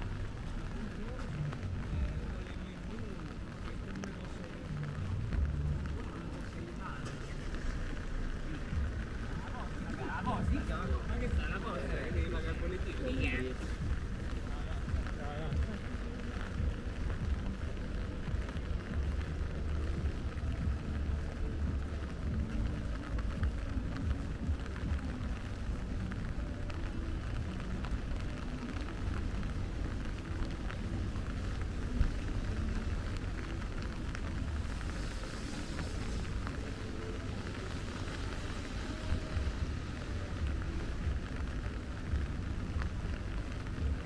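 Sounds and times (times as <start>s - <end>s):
continuous low rumble: 0.0s - 44.0s
steady rain falling: 0.0s - 44.0s.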